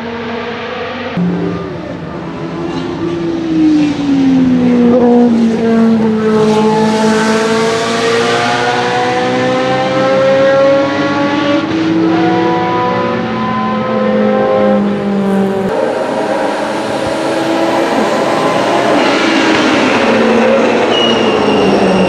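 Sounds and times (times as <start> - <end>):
racing car engine: 0.0 - 22.0.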